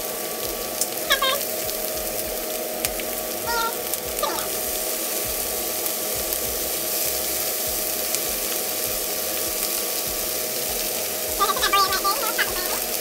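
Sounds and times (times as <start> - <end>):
vegetables sizzling in a skillet: 0.0 - 13.0.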